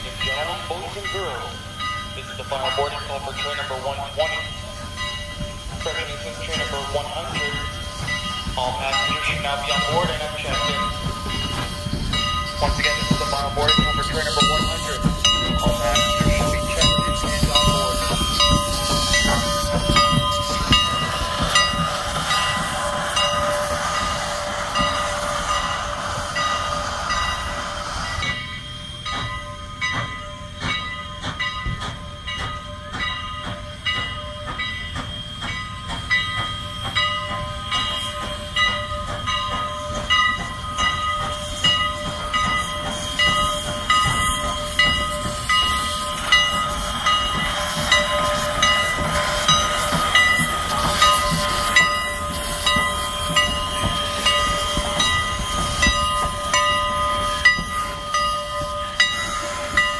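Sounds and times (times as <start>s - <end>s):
steam hissing: 0.0s - 59.9s
steam locomotive rhythmic clanking: 0.0s - 59.9s.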